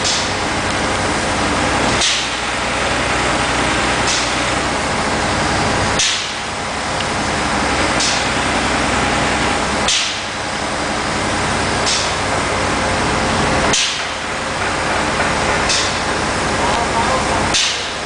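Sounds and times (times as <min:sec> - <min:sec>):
loud machinery noise: 0:00.0 - 0:18.0.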